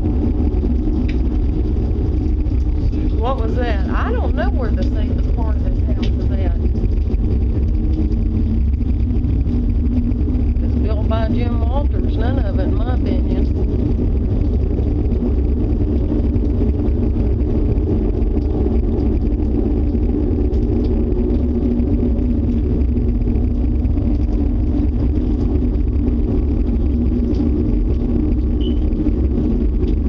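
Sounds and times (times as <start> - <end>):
loud deep rumble: 0.0 - 30.0.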